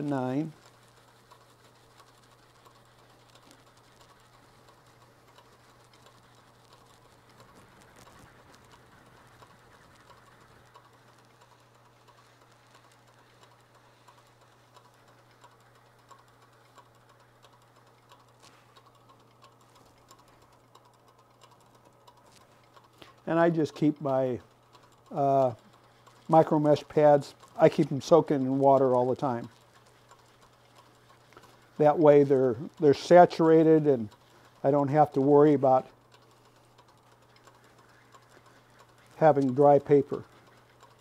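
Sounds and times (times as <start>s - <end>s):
lathe humming: 0.0s - 41.0s
light ticks: 0.0s - 41.0s.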